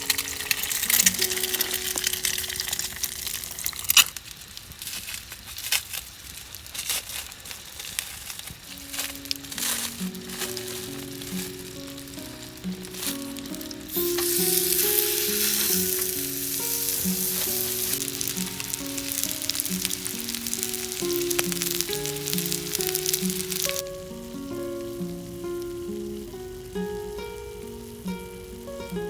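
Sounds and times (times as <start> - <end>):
slow melody of held notes: 0.0 - 3.5, 8.6 - 29.0
loud crackling sizzle: 0.0 - 29.0.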